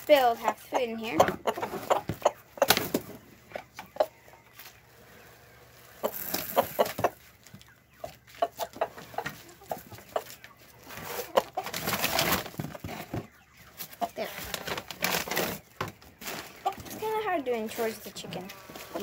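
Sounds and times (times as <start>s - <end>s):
hen clucking: 0.1s - 19.0s.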